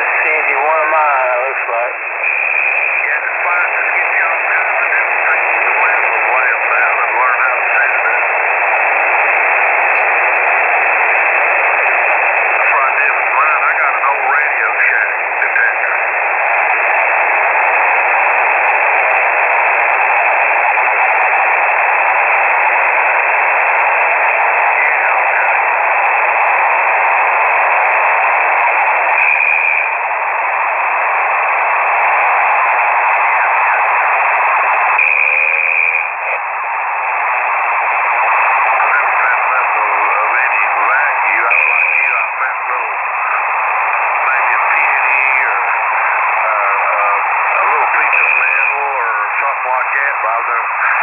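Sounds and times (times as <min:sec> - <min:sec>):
radio static hiss: 0:00.0 - 0:51.0.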